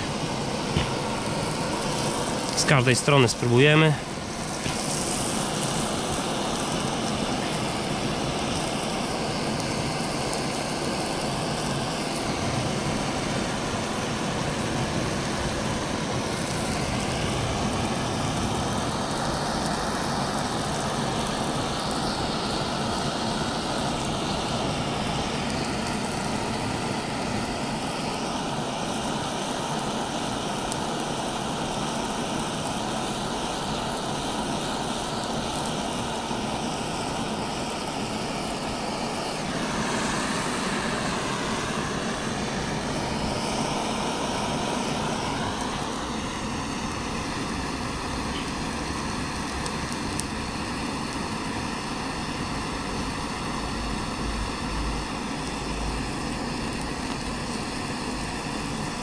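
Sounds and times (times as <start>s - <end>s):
blowtorch hissing: 0.0s - 59.0s.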